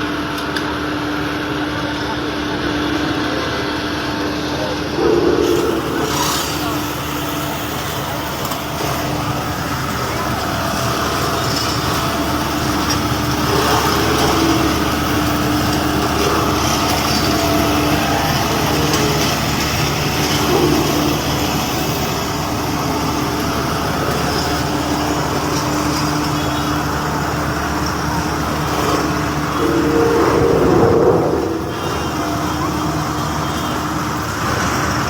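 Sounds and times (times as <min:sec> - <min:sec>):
vehicle engine rumbling: 0:01.5 - 0:35.0.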